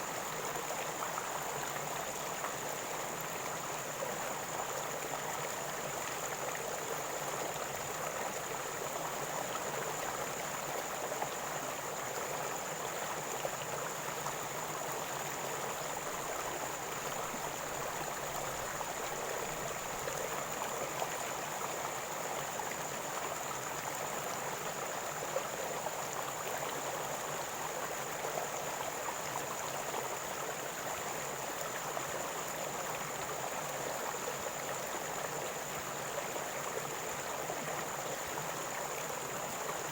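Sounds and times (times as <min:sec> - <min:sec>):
river water gurgling: 0:00.0 - 0:39.9.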